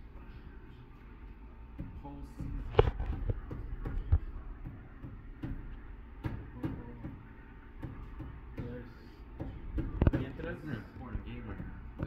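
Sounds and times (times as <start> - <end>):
low indoor hum: 0.0 - 12.0.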